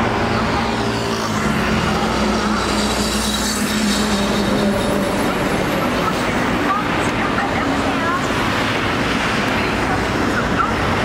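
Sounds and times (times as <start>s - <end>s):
buses and cars driving past: 0.0s - 11.0s.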